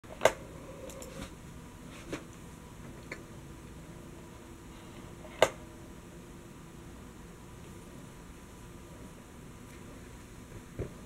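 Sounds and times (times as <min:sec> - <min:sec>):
faint steady hiss: 0:00.1 - 0:11.0.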